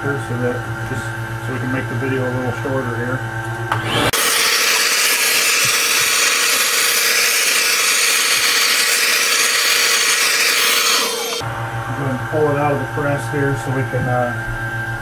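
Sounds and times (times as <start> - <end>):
steady whine: 0.0 - 15.0.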